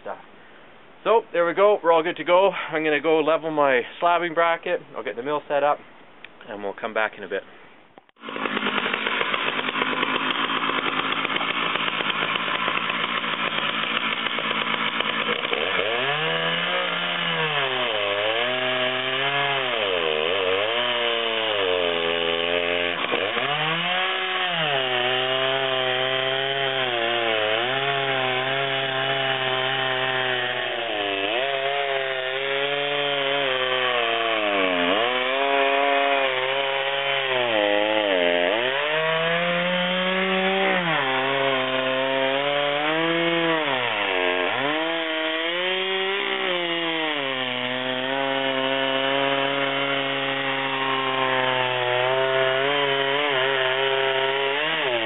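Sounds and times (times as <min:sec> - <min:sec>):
chainsaw ripping log: 0:08.1 - 0:55.0.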